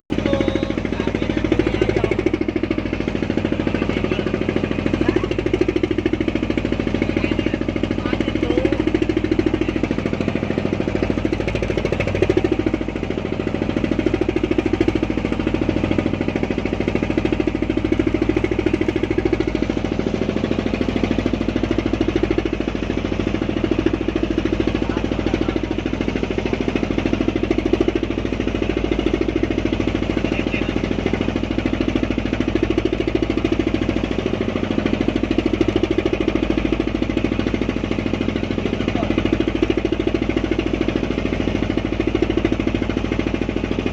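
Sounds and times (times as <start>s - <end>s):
boat engine knocking: 0.1s - 43.9s.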